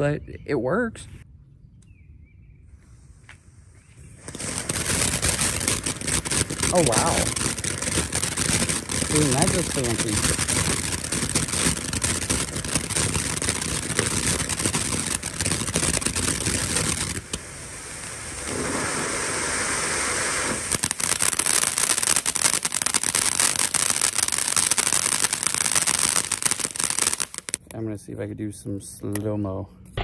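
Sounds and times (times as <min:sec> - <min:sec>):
firework fountain crackling hiss: 0:02.9 - 0:27.6.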